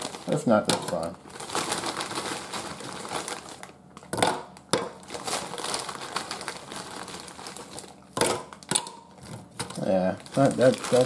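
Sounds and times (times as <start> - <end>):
frozen vegetables crinkling: 0.0 - 11.0.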